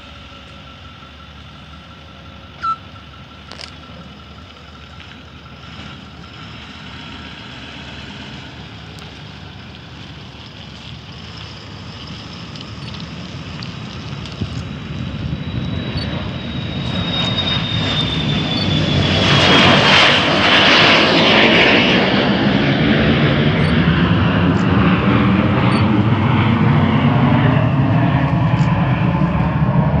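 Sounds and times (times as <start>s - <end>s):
jet taking off: 5.4s - 30.0s.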